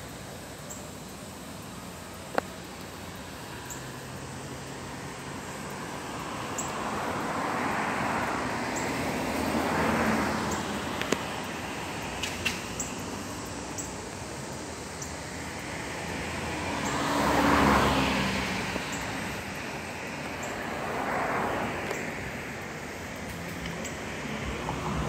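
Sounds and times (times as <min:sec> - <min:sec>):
vehicle passing: 0:03.0 - 0:25.0.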